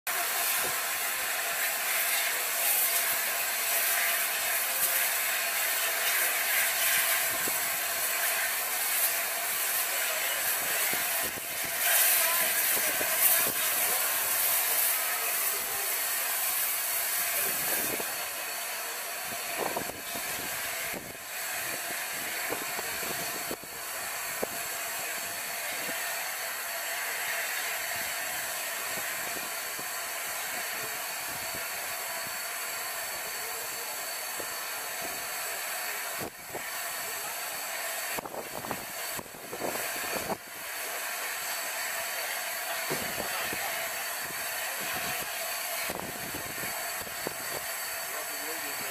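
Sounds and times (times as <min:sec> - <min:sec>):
steam hissing from locomotive: 0:00.1 - 0:48.9.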